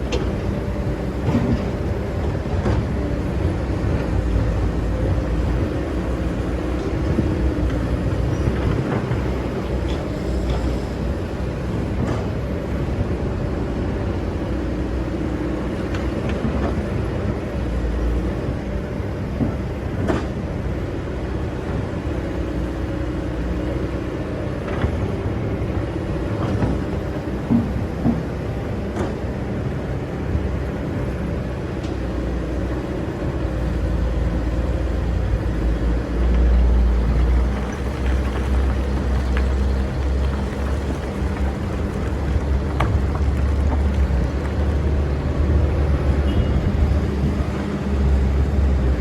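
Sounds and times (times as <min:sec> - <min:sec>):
excavator diesel engine: 0:00.0 - 0:49.0.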